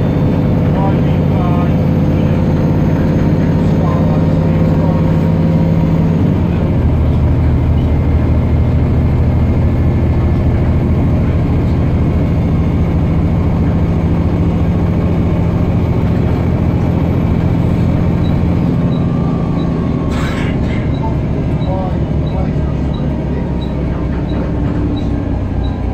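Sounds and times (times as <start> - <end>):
bus diesel engine droning: 0.0 - 25.9.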